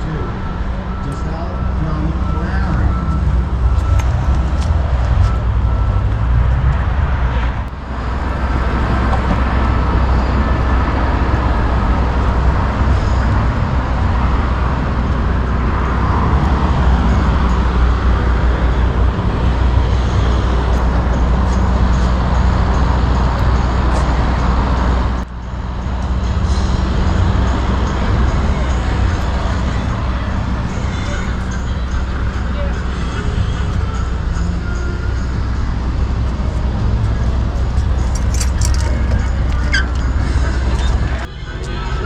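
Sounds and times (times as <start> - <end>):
vehicle engine rumbling: 0.0 - 42.0.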